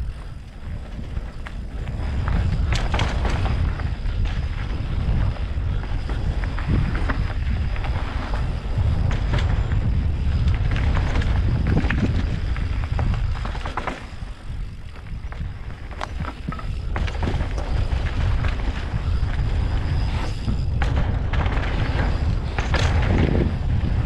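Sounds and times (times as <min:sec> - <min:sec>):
bike knocks and rattles: 0:00.0 - 0:24.0
wind buffeting microphone: 0:00.0 - 0:24.0
tyres rumbling on dirt: 0:00.1 - 0:24.0.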